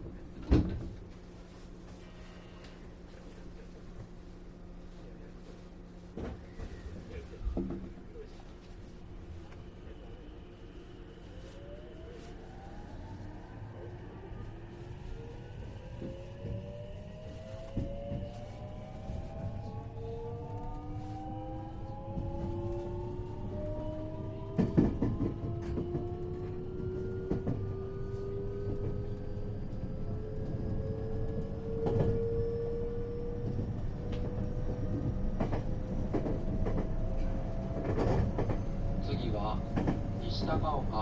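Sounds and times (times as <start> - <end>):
train running gear rumble: 0.0 - 41.0.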